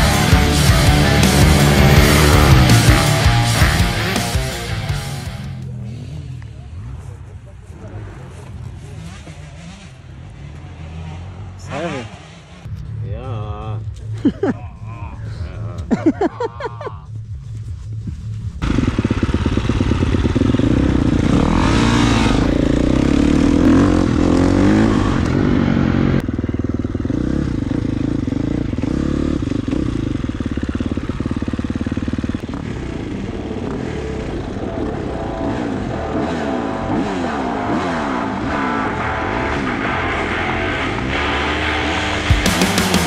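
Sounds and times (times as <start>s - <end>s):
motocross bike engine revving: 0.0s - 16.4s, 18.5s - 43.0s.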